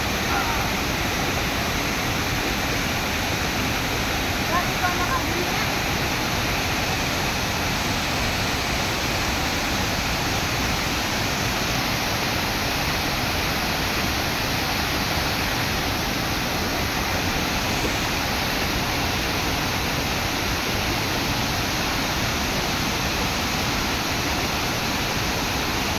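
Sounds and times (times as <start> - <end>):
water rushing over rock steps: 0.0 - 25.9.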